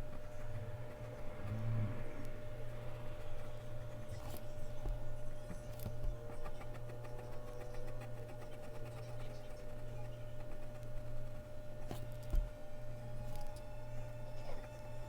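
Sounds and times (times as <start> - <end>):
pencil scratching on paper: 0.0 - 12.4, 14.3 - 15.0
steady electrical hum: 0.0 - 15.0.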